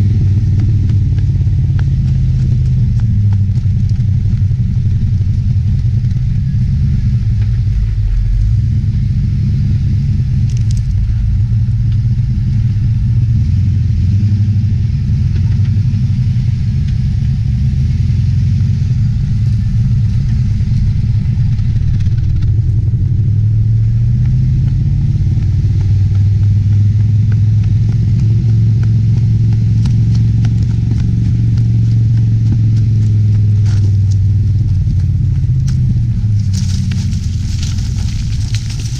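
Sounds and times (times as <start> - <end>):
tyres crunching over gravel: 0.0 - 13.4, 14.1 - 38.9
car engine running: 0.0 - 38.9.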